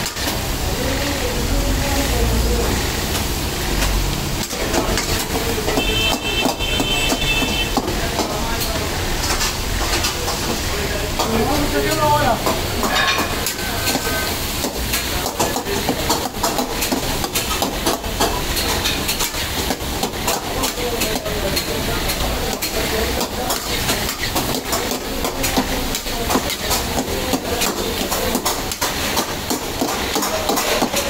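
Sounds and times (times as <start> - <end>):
gas burner noise: 0.0 - 31.0
meat sizzling in a wok: 0.0 - 31.0.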